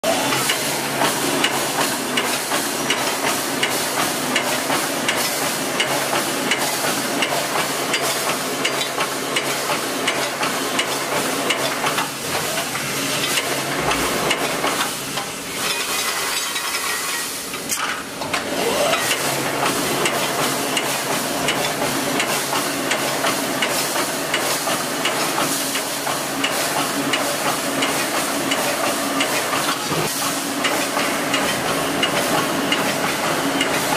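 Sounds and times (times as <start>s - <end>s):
steady machine hum: 0.0s - 15.6s, 16.6s - 33.9s.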